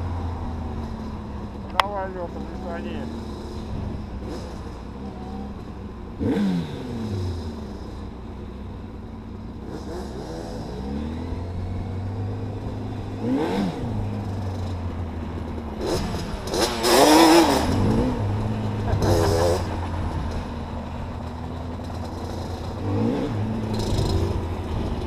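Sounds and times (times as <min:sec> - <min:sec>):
quad bike engines revving: 0:00.0 - 0:08.0, 0:09.6 - 0:25.0.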